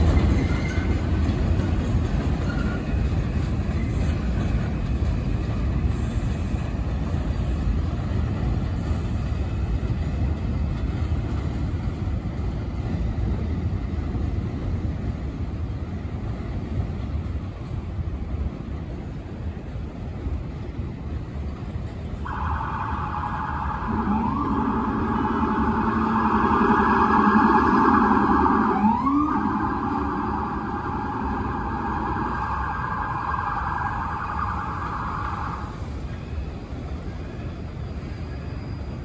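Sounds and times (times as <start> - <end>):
subway train electric whine: 0.0 - 39.0.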